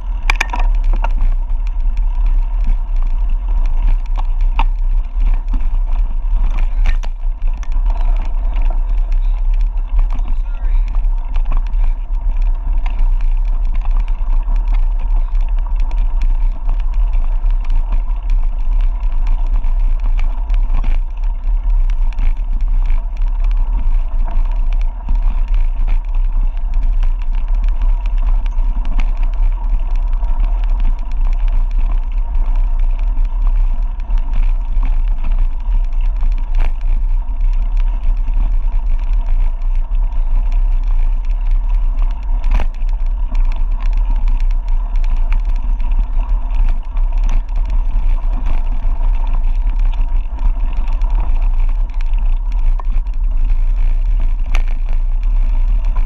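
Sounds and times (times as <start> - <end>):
bike rattling over trail: 0.0 - 56.0
wind buffeting microphone: 0.0 - 56.0.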